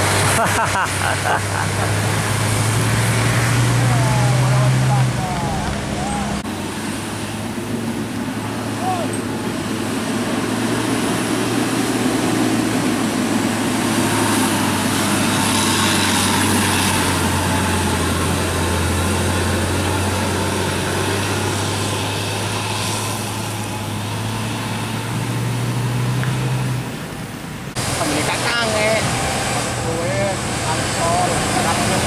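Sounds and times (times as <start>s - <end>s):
truck diesel engine labouring: 0.0s - 32.0s.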